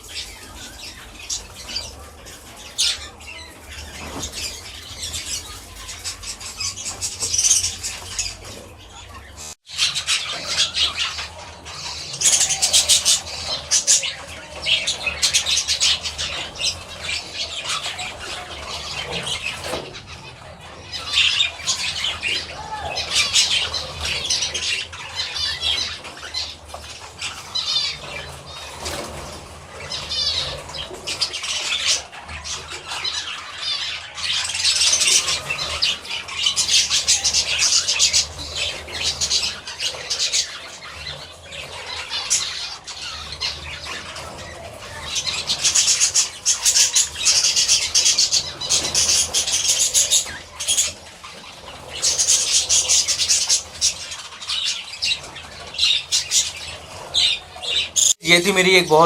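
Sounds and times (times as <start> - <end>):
budgerigars chattering and squawking: 0.0 - 59.0.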